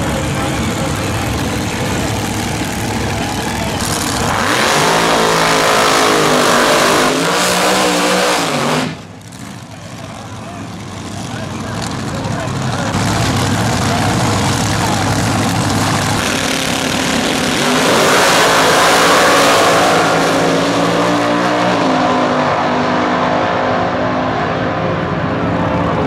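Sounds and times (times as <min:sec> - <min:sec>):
dragsters racing at full throttle: 0:00.0 - 0:26.0.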